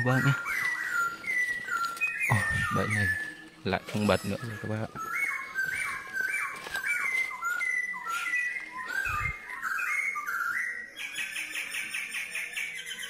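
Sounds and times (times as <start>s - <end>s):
bird whistling song: 0.0s - 13.0s.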